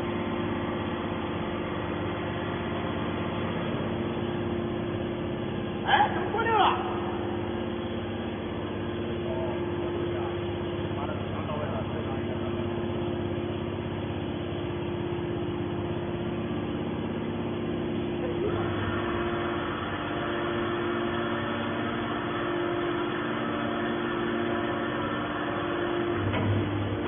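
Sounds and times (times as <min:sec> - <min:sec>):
baler motor and pump humming: 0:00.0 - 0:27.0.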